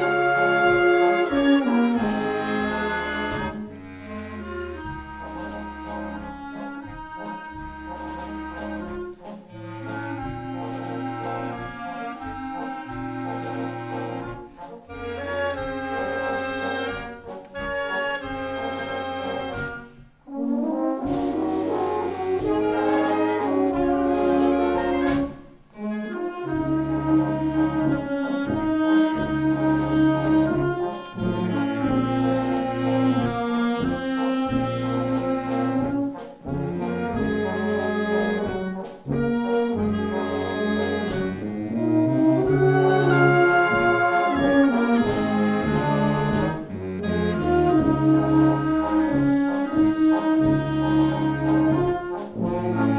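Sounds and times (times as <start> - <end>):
brass band chords: 0.0 - 52.9
tuba bass line: 0.0 - 52.9.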